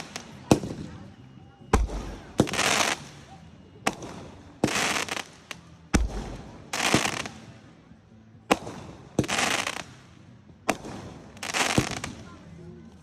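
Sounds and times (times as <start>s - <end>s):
firework pops and crackling bursts: 0.0s - 1.0s, 1.7s - 7.6s, 8.4s - 12.3s.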